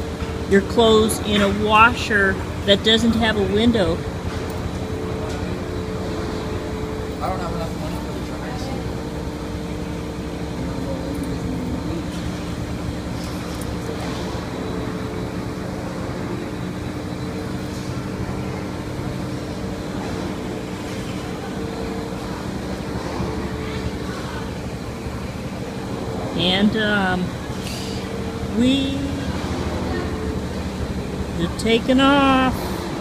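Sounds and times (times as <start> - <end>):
washing machine spin cycle: 0.0 - 33.0.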